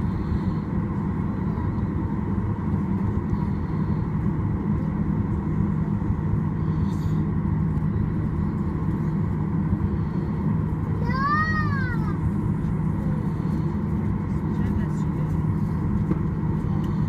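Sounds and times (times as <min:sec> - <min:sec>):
faint engine whine: 0:00.0 - 0:17.0
jet engine cabin drone: 0:00.0 - 0:17.0.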